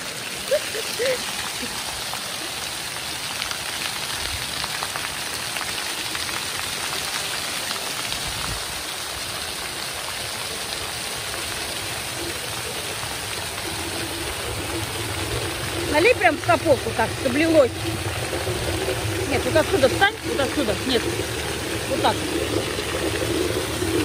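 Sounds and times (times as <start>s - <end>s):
fountain water splashing on stone: 0.0s - 24.0s.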